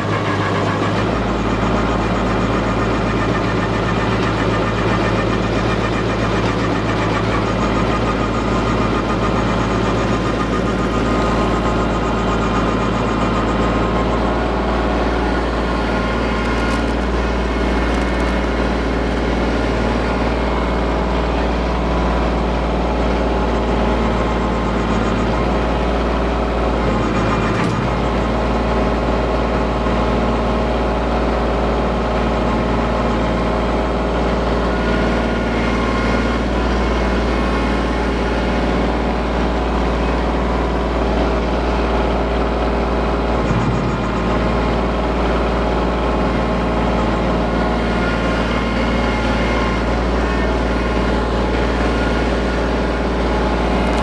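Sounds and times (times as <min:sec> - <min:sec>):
stump grinder grinding: 0:00.0 - 0:54.0
tractor engine under load: 0:00.0 - 0:54.0.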